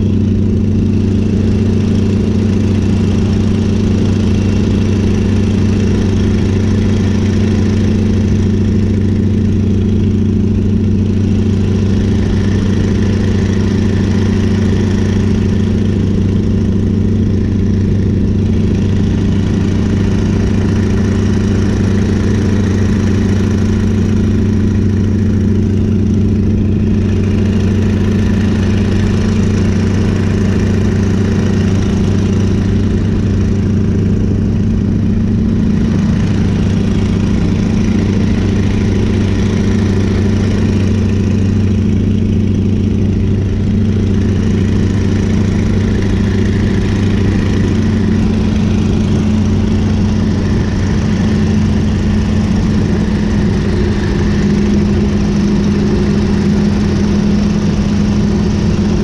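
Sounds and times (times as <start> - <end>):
radial aircraft engine running: 0.0 - 59.0.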